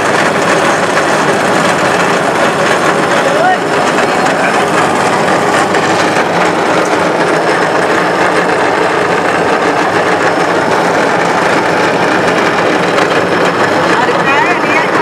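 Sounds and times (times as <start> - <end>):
cable ride trolley whirring: 0.0 - 15.0.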